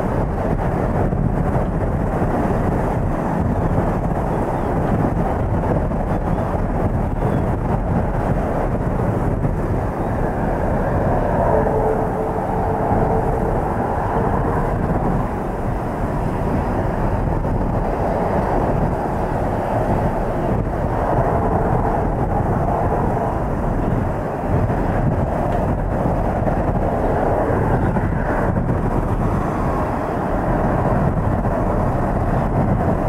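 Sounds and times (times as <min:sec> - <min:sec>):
jet engine rumble: 0:00.0 - 0:33.0
wind buffeting microphone: 0:00.0 - 0:33.0.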